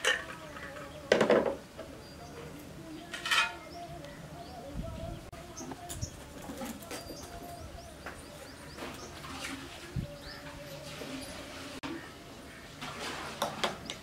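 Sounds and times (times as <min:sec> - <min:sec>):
birds calling: 0:00.0 - 0:12.8.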